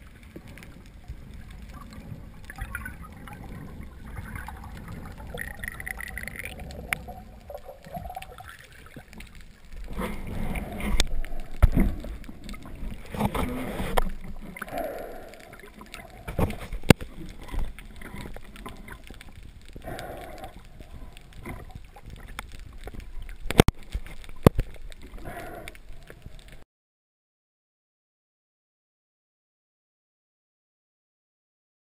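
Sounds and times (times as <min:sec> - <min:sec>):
water sloshing and gurgling: 0:00.0 - 0:26.6.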